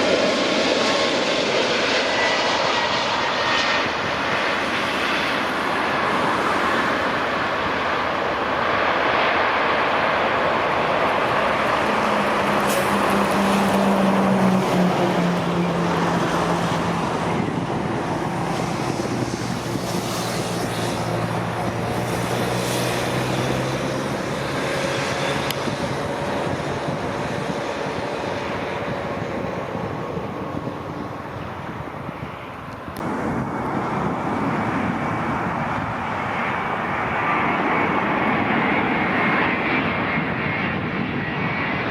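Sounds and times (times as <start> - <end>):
jet airliner engines passing: 0.0 - 41.9.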